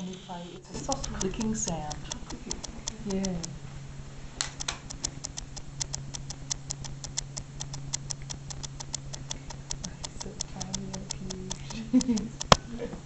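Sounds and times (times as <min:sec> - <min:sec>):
soft rhythmic clicks: 0:00.0 - 0:03.6, 0:04.4 - 0:12.8
steady low hum: 0:00.0 - 0:13.0.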